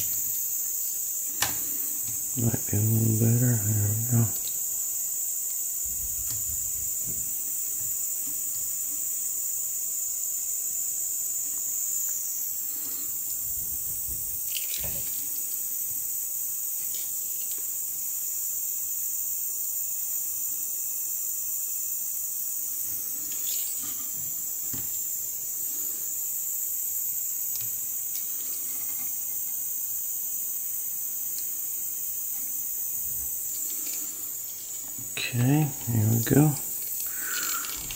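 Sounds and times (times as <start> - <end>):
high-pitched hiss: 0.0 - 37.9.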